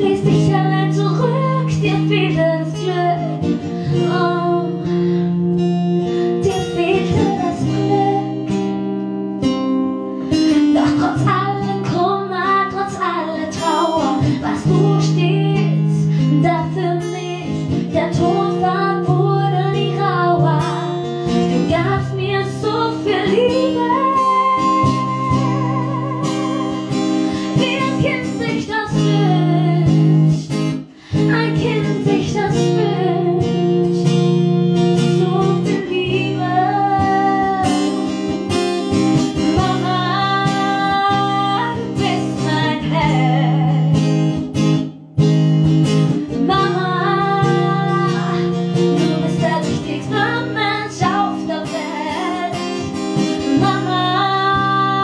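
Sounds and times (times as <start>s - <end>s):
woman singing slow song: 0.0s - 5.0s, 6.2s - 8.6s, 10.5s - 38.2s, 39.4s - 44.1s, 46.3s - 55.0s
plucked acoustic guitar: 0.0s - 55.0s.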